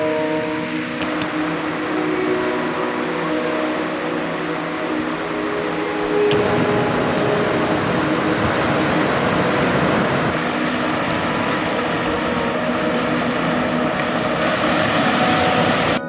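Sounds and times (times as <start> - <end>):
faint music: 0.0 - 16.0
surf rushing over rocks: 0.0 - 16.0
wind: 0.0 - 16.0.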